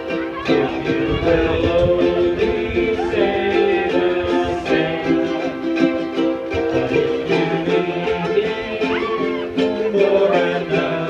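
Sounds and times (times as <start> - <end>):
people singing: 0.0 - 11.0
ukuleles strumming: 0.0 - 11.0.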